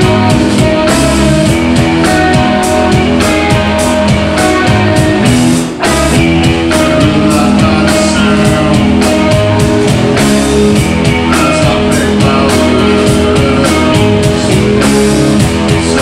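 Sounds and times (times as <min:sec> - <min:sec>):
rock band playing loudly: 0:00.0 - 0:16.0.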